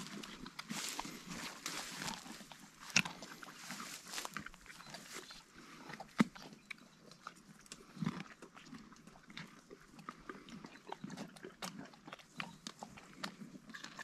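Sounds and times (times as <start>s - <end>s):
donkeys crunching and chewing: 0.0s - 14.0s.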